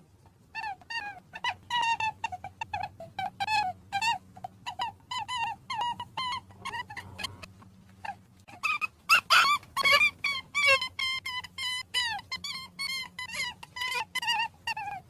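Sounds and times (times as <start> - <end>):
rabbit squeaking: 0.0 - 15.0.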